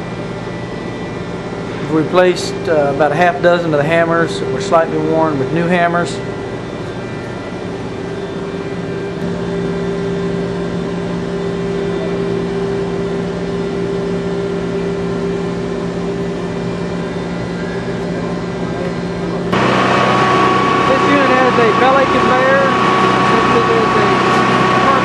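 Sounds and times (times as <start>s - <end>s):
electric machinery humming: 0.0s - 25.0s.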